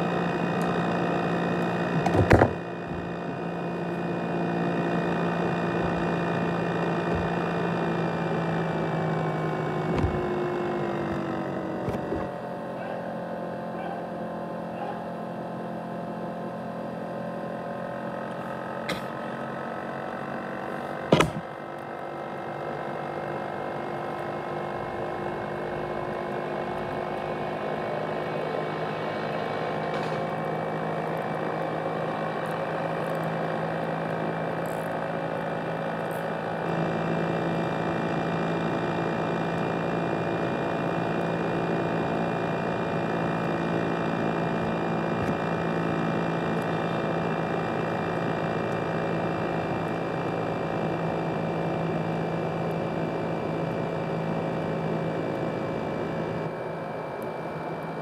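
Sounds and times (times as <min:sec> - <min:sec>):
laptop cooling fan whirring: 0:00.0 - 0:58.0.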